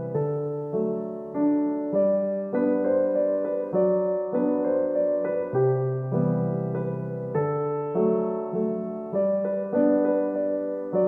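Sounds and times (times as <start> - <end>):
keyboard playing gentle chords: 0.0 - 11.0.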